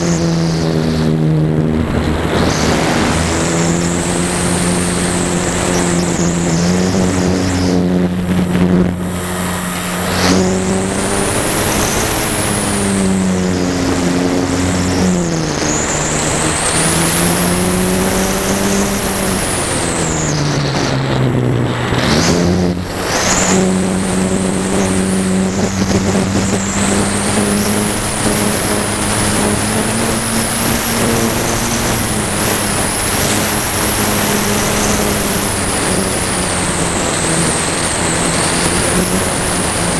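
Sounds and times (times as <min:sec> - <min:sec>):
electric motor and propeller humming: 0:00.0 - 0:39.9
high whine: 0:00.0 - 0:39.9
wind rushing across microphone: 0:00.0 - 0:39.9.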